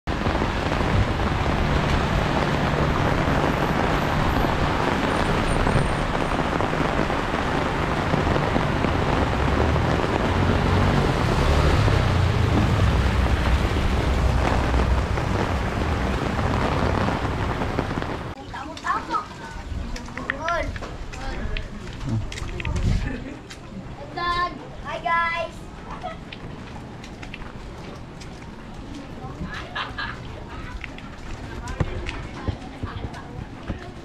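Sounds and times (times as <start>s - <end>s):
steady dense rain: 0.0s - 34.0s.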